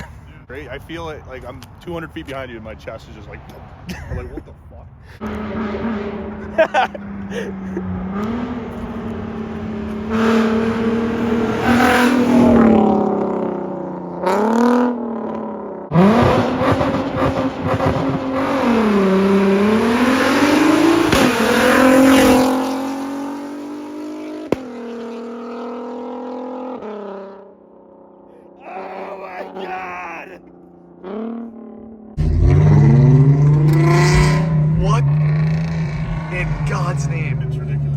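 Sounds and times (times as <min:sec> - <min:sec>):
loud car engine accelerating: 0:05.2 - 0:28.1, 0:30.4 - 0:37.9.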